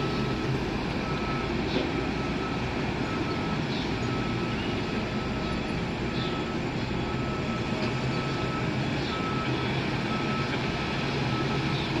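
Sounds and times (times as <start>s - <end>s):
heavy machine engine running: 0.0s - 12.0s
reversing alarm beeps: 0.0s - 12.0s.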